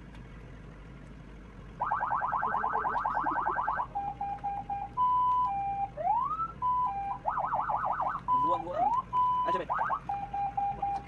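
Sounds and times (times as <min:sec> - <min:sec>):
car alarm cycling tones: 0:01.8 - 0:11.0.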